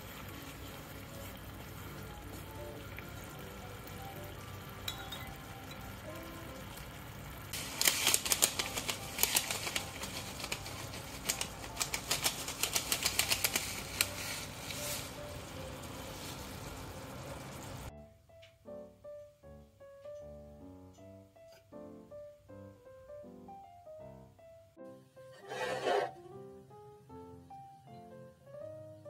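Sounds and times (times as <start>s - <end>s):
faint background music: 0.0s - 29.0s.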